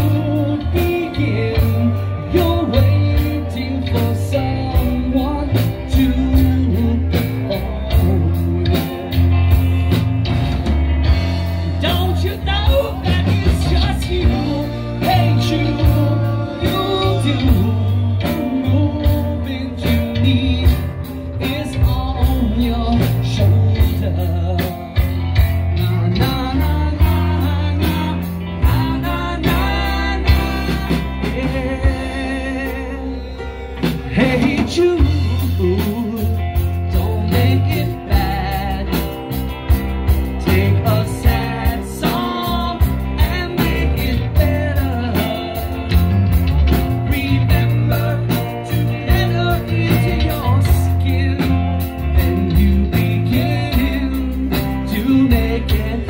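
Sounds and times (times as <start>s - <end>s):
man singing: 0.0s - 10.3s, 11.0s - 56.0s
bass guitar: 0.0s - 56.0s
drums: 0.0s - 56.0s
electric guitar: 0.0s - 56.0s
keyboard: 0.0s - 56.0s.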